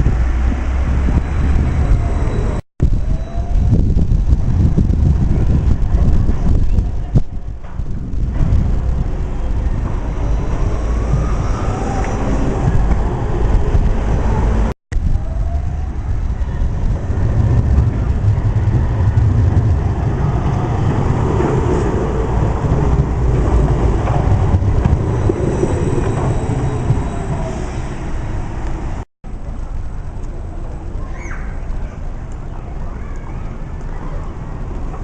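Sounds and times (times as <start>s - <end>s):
tram rumbling on rails: 0.0s - 35.0s.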